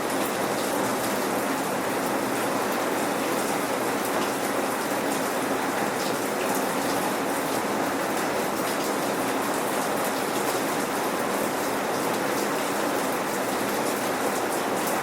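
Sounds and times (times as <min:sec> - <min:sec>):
steady rain patter: 0:00.0 - 0:15.0.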